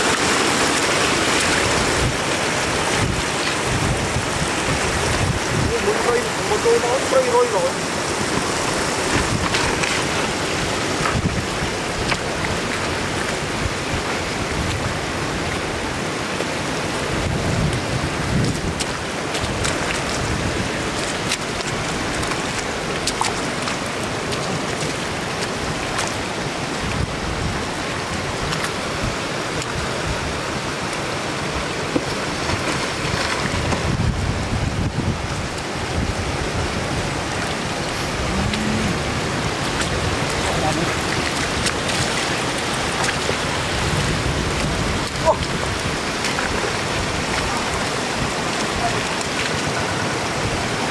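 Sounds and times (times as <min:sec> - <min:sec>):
floodwater running across road: 0:00.0 - 0:50.9
water splashes and knocks: 0:00.0 - 0:50.9.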